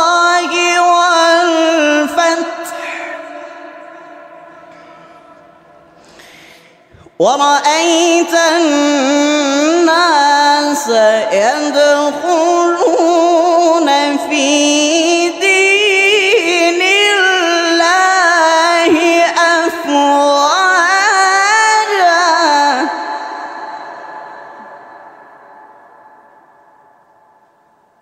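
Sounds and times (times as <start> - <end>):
person reciting melodically: 0.0 - 5.7, 6.8 - 25.1.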